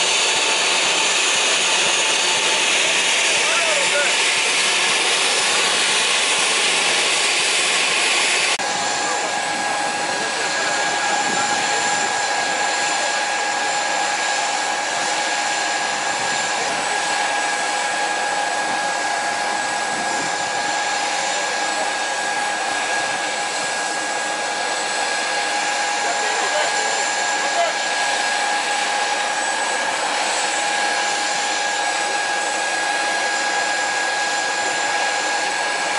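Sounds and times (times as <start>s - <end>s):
jet engine rushing: 0.0s - 35.9s
jet engine whine: 0.0s - 35.9s.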